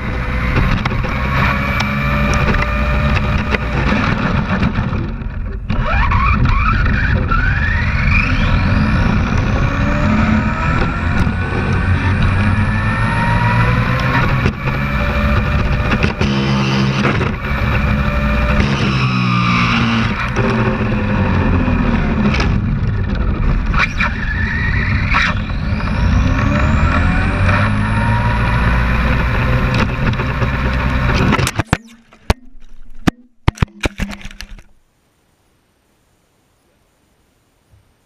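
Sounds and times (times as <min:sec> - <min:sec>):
rc car motor and road noise: 0:00.0 - 0:31.7.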